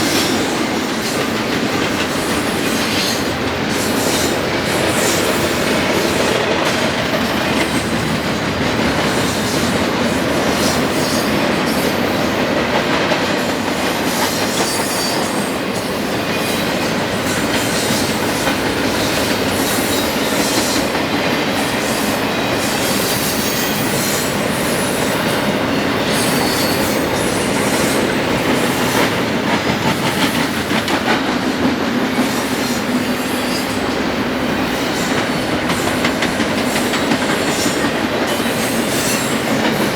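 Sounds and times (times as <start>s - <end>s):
steel wheels rumbling on rail: 0.0s - 39.9s
wheels clicking over rail joints: 0.1s - 32.4s, 34.3s - 39.9s.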